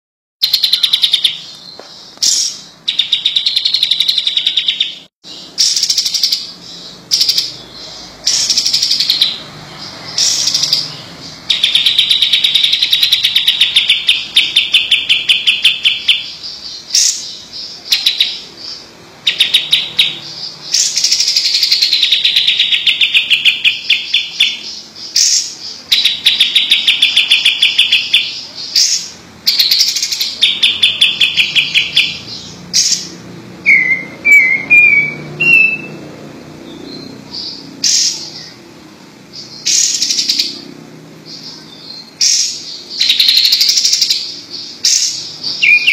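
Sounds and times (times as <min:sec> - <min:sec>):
bulbul singing trills: 0:00.4 - 0:45.9.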